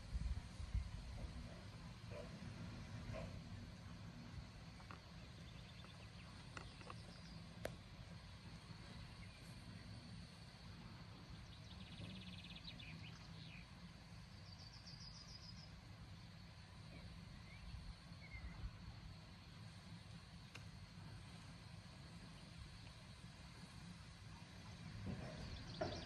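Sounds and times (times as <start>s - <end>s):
faint low rumble: 0.0s - 26.0s.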